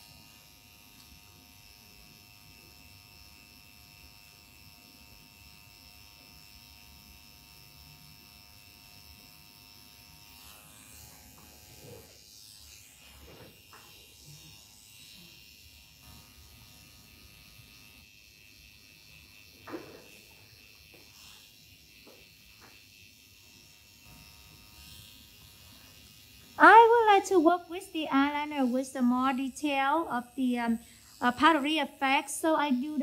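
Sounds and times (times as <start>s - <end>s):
makeup pen buzzing: 0.0s - 33.0s.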